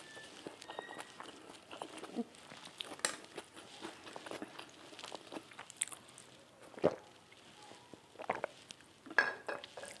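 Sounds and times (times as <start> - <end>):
chewing: 0.0 - 10.0.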